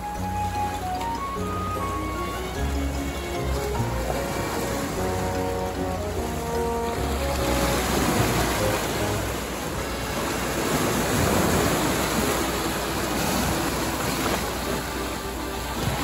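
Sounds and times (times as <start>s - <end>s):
waves washing on rocky shore: 0.0s - 16.0s.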